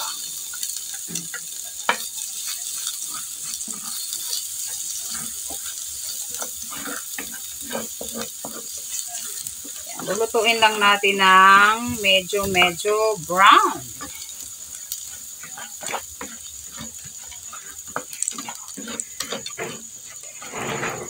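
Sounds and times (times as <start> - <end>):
garlic sizzling in oil: 0.0 - 21.0
spatula scraping and tapping pan: 0.0 - 21.0.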